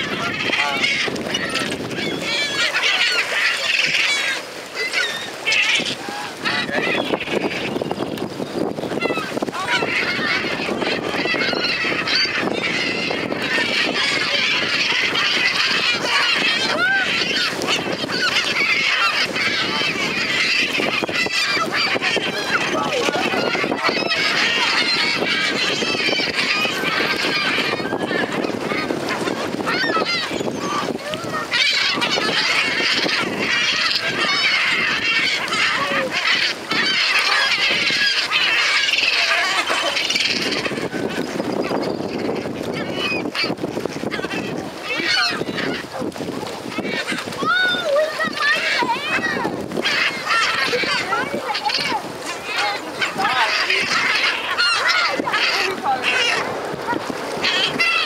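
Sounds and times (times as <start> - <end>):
birds splashing in water: 0.0 - 58.0
gulls squawking: 0.0 - 58.0
wingbeats: 8.9 - 58.0.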